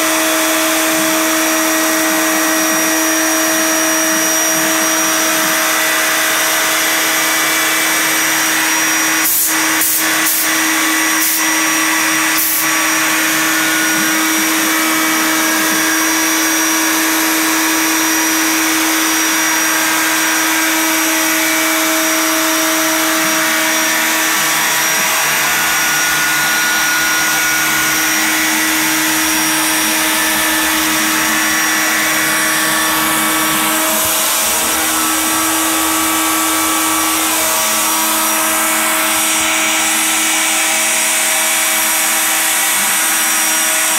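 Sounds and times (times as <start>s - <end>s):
cnc router spindle whine: 0.0s - 43.9s.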